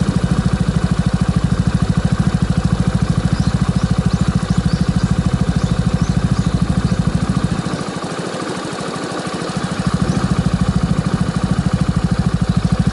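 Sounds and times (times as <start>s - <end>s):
scooter engine idling: 0.0s - 12.9s.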